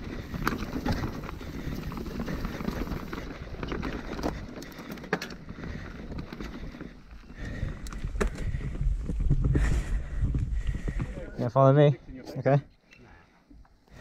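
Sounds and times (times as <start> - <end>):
bike clacking on bumps: 0.0 - 11.3
bike rattling: 0.0 - 11.8
bike tyres rolling over dirt: 0.0 - 11.9.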